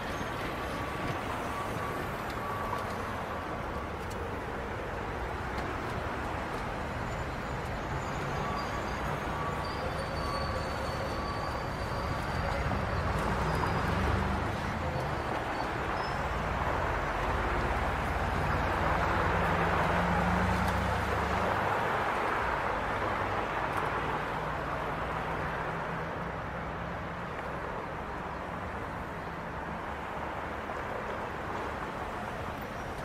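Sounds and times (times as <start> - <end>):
distant city traffic roar: 0.0 - 33.0.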